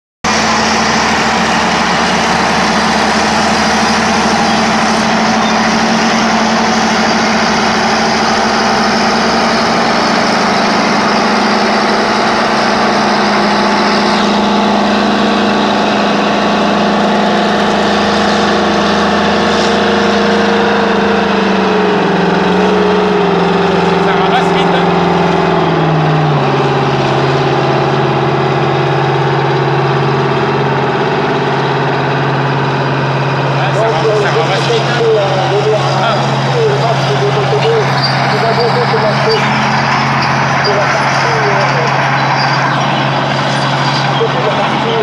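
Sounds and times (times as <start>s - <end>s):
large diesel engines under load: 0.2s - 45.0s.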